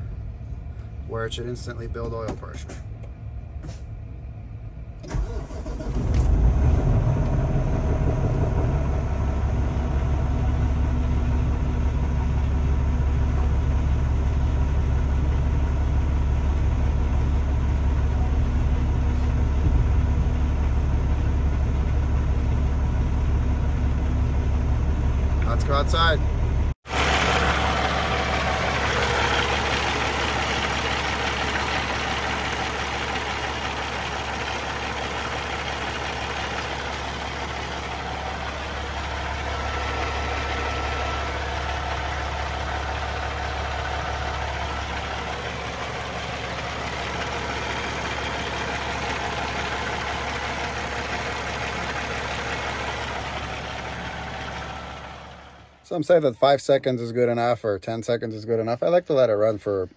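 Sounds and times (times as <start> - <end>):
diesel engine idling: 0.0 - 56.6.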